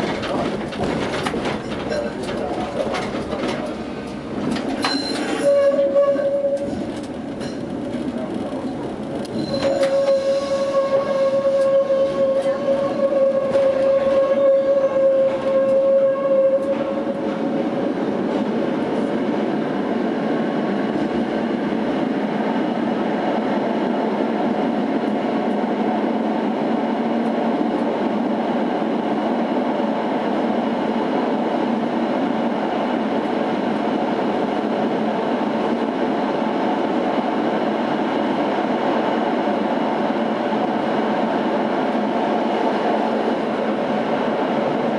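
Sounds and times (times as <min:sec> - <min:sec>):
tram wheels rumbling on track: 0:00.0 - 0:44.9.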